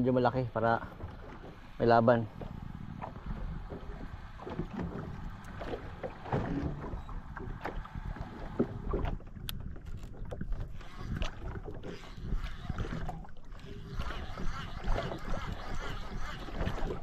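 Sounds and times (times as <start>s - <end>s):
water sloshing against boat hull: 0.0s - 17.0s
wind on microphone: 1.8s - 17.0s.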